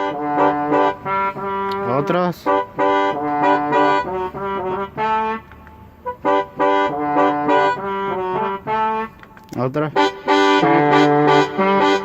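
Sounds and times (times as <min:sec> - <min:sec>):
brass section chord phrases: 0:00.0 - 0:12.0.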